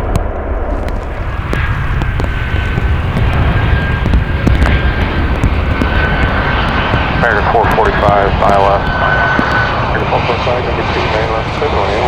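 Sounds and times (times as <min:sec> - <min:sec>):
high engine whine: 0:00.0 - 0:12.0
jet engines rumbling: 0:00.0 - 0:12.0
sharp ticks: 0:00.1 - 0:10.0.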